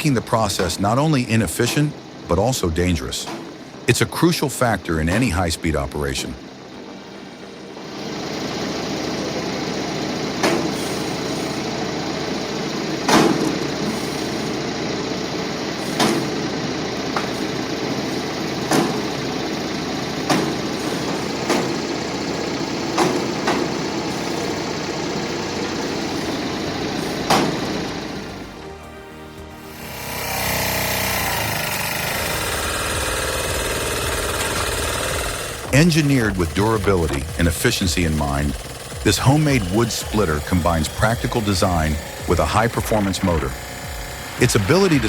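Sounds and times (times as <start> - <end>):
firewood processing machine running: 0.0 - 45.0.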